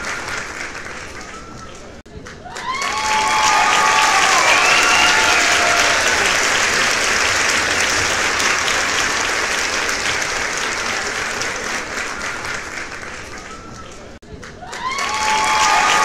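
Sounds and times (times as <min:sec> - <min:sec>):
audience applauding: 0:00.0 - 0:16.0
voices cheering: 0:00.0 - 0:16.0.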